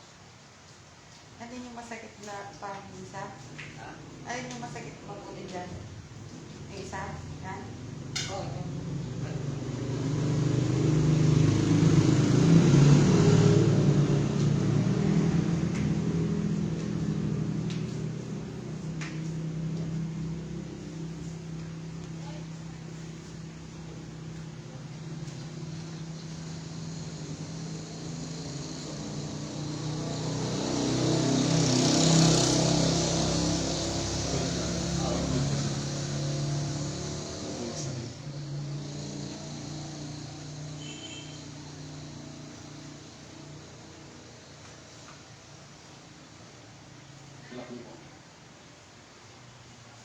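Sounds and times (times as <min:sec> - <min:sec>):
steady low hum: 0:01.4 - 0:44.6
vehicle engine passing by: 0:03.0 - 0:48.0.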